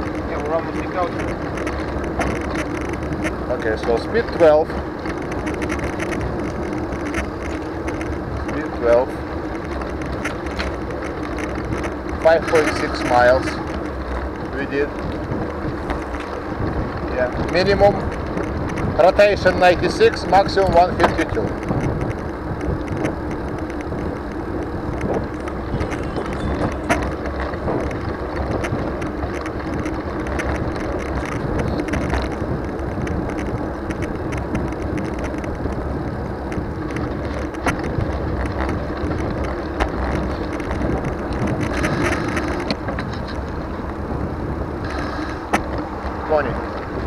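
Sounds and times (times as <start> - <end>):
bicycle tyre and road noise: 0.0 - 47.0
wind on microphone: 0.0 - 47.0.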